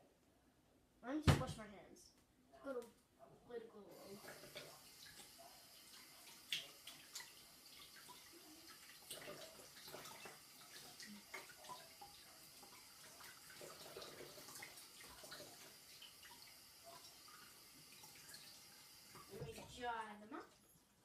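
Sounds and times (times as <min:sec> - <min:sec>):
hands washed under running tap: 0:03.9 - 0:21.0
water splashes and drips: 0:03.9 - 0:21.0.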